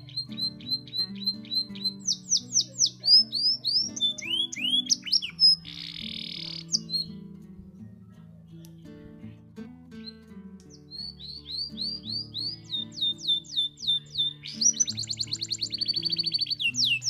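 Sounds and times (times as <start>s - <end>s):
canary singing: 0.0s - 17.0s
soft guitar music: 0.0s - 17.0s.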